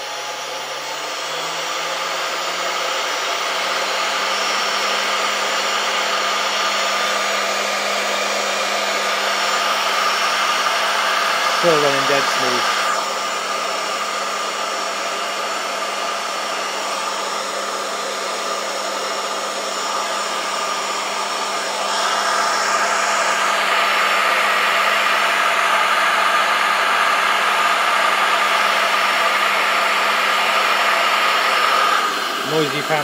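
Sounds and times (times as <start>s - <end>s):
cooling fan whirring: 0.0s - 33.0s.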